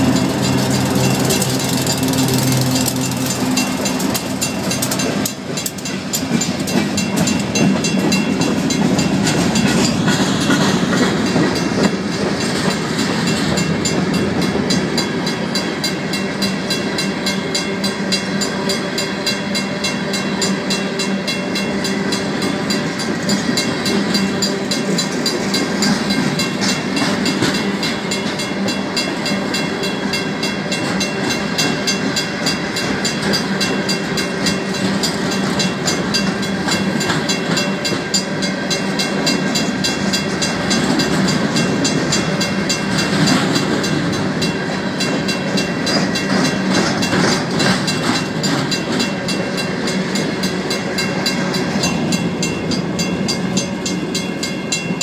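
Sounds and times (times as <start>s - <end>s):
crossing bell ringing: 0.0s - 55.0s
diesel locomotive engine: 0.0s - 55.0s
freight train wheels clattering: 0.0s - 55.0s.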